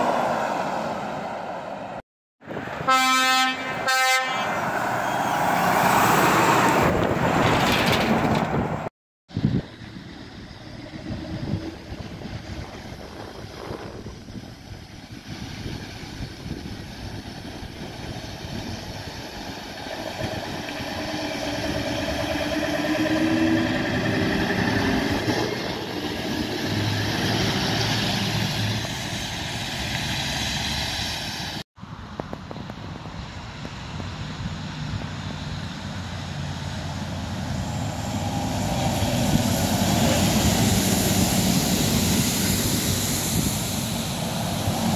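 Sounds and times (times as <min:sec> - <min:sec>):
truck engine and tyre noise: 0:00.0 - 0:44.9
truck diesel engine accelerating: 0:04.5 - 0:44.9.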